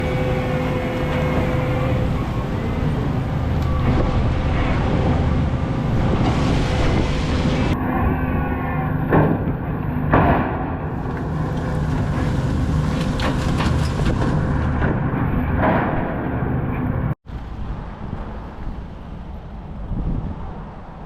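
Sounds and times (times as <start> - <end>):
engine running steadily: 0.0 - 8.0, 9.1 - 21.0.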